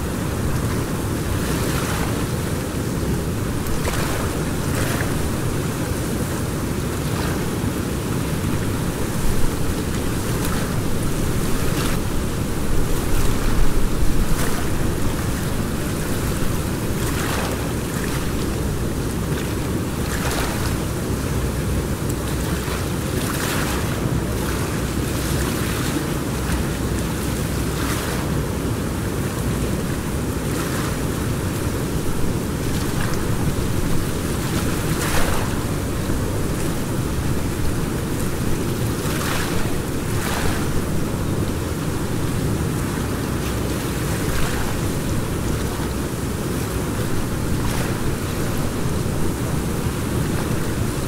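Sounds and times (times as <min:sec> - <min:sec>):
river water rushing: 0:00.0 - 0:51.0
water splashes: 0:00.0 - 0:51.0.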